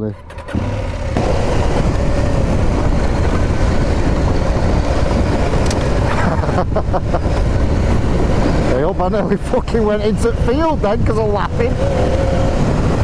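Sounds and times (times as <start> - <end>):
motorcycle engine running: 0.0 - 13.0
wind rumble on microphone: 1.1 - 13.0.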